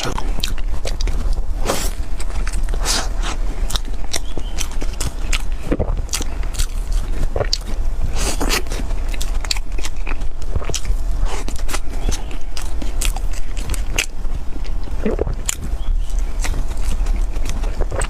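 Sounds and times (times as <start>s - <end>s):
person biting and chewing: 0.0s - 18.0s
steady low hum: 0.0s - 18.0s.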